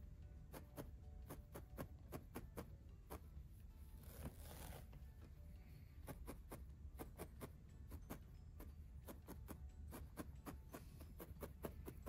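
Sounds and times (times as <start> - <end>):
felting needle ticking: 0.0 - 3.9, 5.2 - 12.0.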